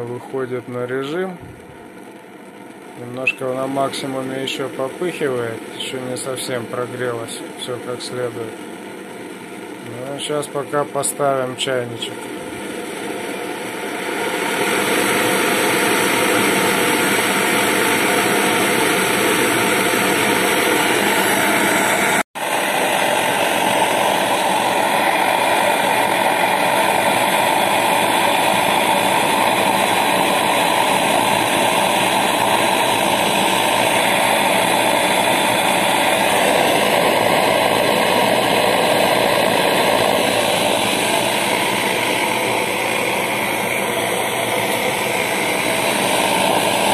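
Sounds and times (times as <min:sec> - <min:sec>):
pressure stove burner roaring: 0:00.0 - 0:46.9.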